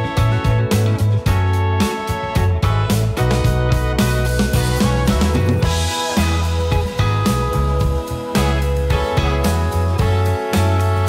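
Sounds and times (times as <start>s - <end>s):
instrumental music with drums and bass: 0.0s - 11.0s.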